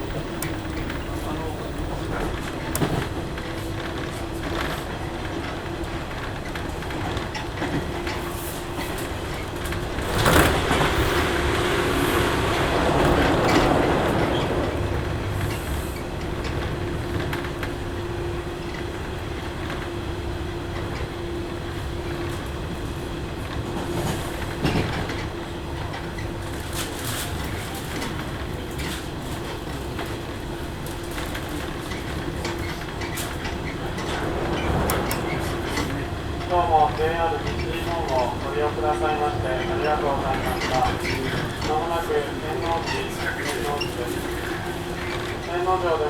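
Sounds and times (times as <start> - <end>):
train carriage hum: 0.0 - 46.0
train wheels clicking over rail joints: 0.0 - 46.0.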